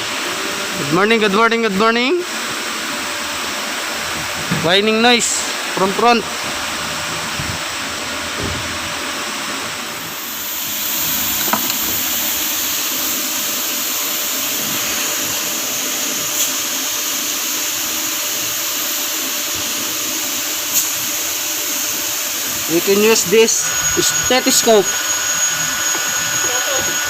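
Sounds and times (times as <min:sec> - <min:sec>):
engine belt drive whine: 0:02.6 - 0:27.0.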